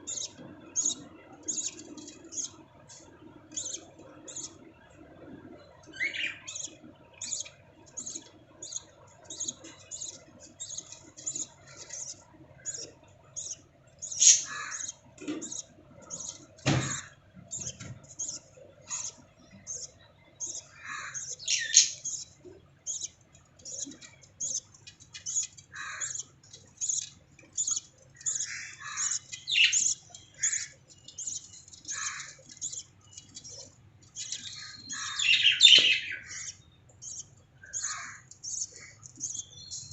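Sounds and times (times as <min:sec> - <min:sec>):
lovebirds chirping: 0:00.0 - 0:04.7, 0:05.8 - 0:39.9.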